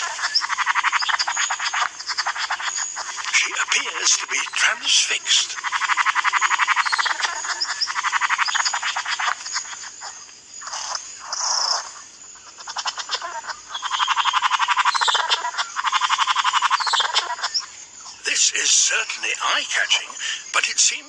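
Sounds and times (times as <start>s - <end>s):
rattling clicking animal calls: 0.0s - 21.0s.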